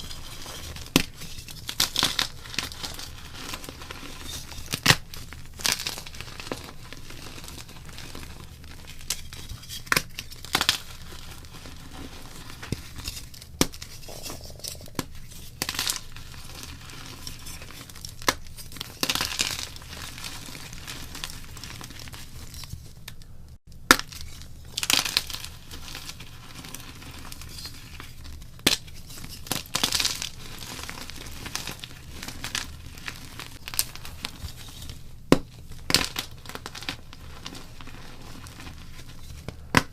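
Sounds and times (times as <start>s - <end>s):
chalk crunching and snapping: 0.0s - 23.0s, 23.9s - 39.9s.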